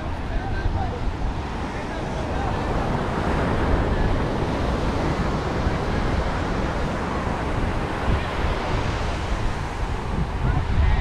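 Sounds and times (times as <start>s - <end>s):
ocean surf washing on sand: 0.0s - 11.0s
wind rumbling on microphone: 0.0s - 11.0s.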